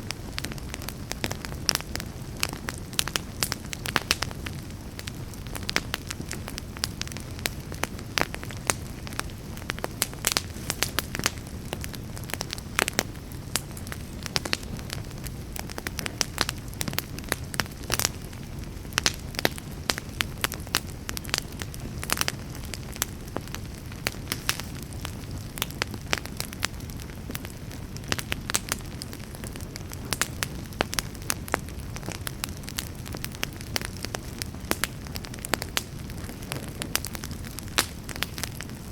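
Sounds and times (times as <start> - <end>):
campfire crackles and pops: 0.0 - 38.9
low rumble of flames: 0.0 - 38.9.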